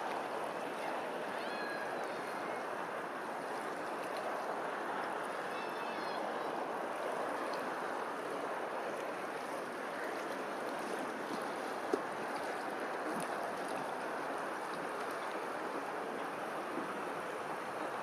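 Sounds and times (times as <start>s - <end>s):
flowing water rushing: 0.0s - 18.0s.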